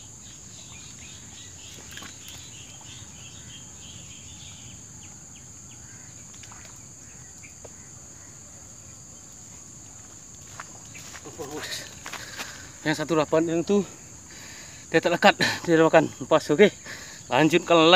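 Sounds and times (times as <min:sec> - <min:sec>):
insects buzzing drone: 0:00.0 - 0:17.9
short insect chirps: 0:00.0 - 0:17.9.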